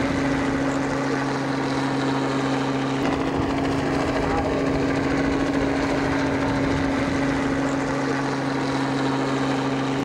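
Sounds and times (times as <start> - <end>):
aircraft engine drone: 0.0 - 10.0
constant low hum: 0.0 - 10.0.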